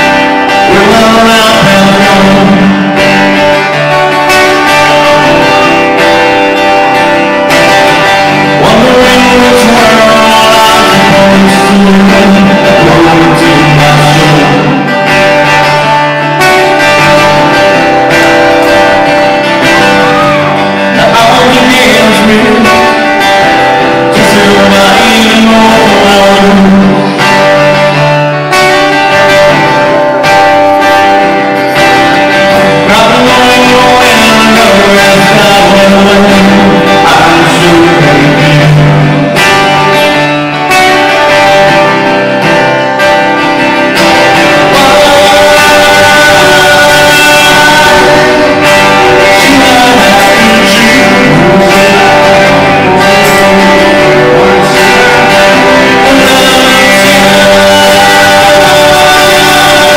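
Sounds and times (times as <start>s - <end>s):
live rock band playing: 0.0s - 59.9s
man singing: 0.0s - 59.9s.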